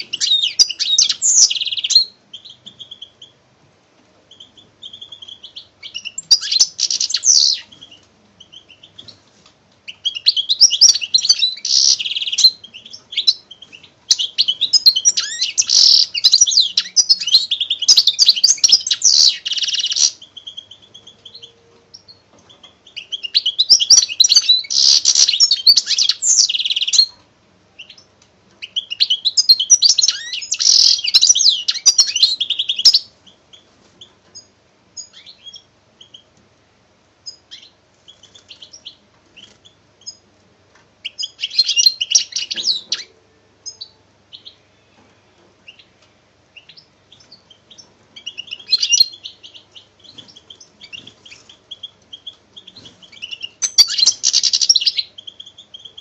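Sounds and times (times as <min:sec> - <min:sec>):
songbird chirping and trilling: 0:00.0 - 0:03.5, 0:04.2 - 0:09.2, 0:09.8 - 0:36.4, 0:37.2 - 0:56.0.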